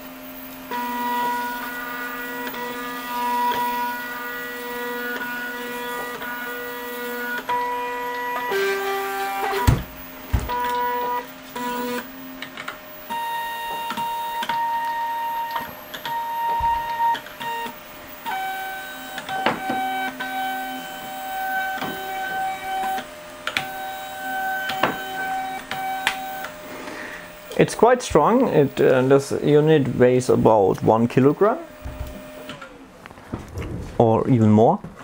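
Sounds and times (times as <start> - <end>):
stepper motors whining: 0.0 - 33.8.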